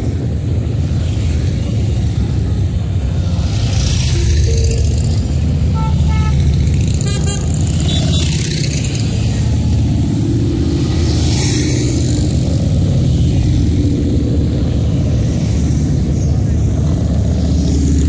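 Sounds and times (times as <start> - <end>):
motorcycles riding past: 0.0 - 18.0.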